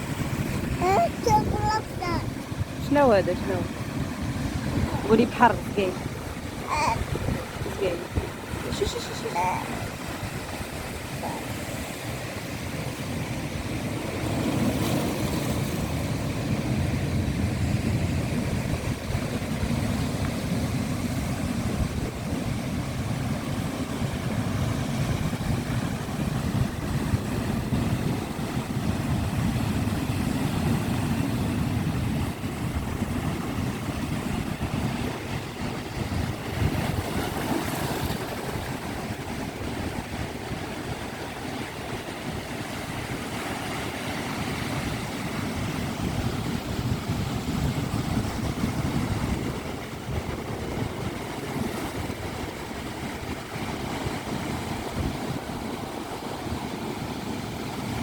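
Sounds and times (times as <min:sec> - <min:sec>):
sea waves breaking: 0:00.0 - 0:58.0
wind rumble on microphone: 0:00.0 - 0:58.0.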